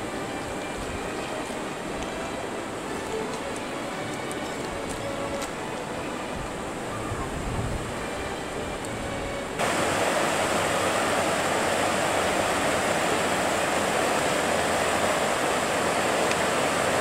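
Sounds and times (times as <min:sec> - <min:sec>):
river rushing over rapids: 0:00.0 - 0:17.0.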